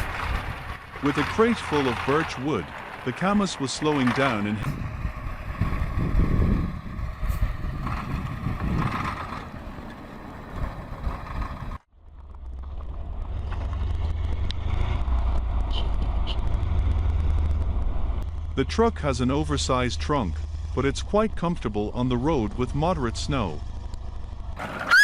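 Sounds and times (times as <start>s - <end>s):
heavy truck driving: 0.0s - 25.0s
truck engine deep rumble: 0.0s - 25.0s.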